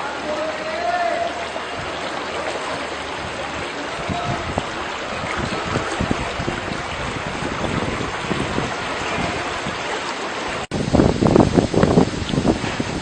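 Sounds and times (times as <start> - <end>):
wind buffeting microphone: 1.3 - 13.0
wind rushing: 1.6 - 13.0.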